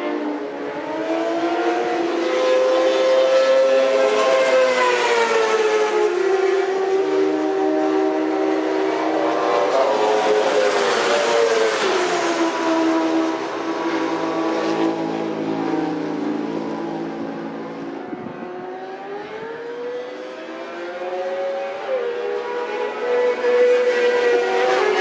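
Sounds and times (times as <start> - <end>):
motorcycle accelerating: 0.0 - 25.0
motorcycle engines revving: 0.0 - 25.0
motorcycle passing by: 0.9 - 25.0.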